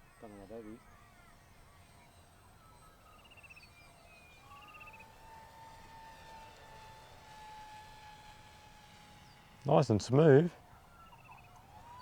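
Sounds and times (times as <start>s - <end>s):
bird chirps and trills: 0.0s - 12.0s
faint steady whine: 0.0s - 12.0s.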